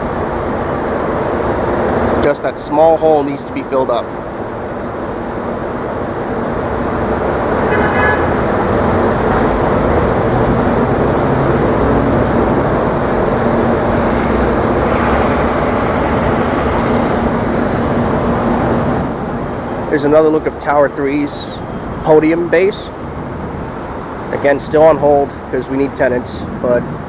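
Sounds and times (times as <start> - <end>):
city road traffic: 0.0 - 27.0
engine hum: 0.0 - 27.0.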